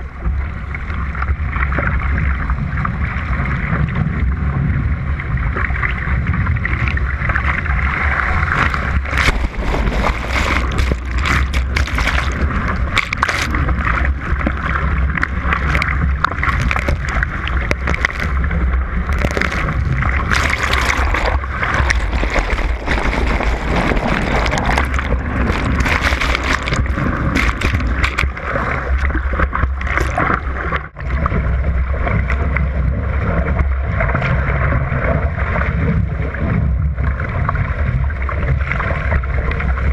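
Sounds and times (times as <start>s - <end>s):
steady low rumble: 0.0s - 39.9s
water rushing along hull: 0.0s - 39.9s.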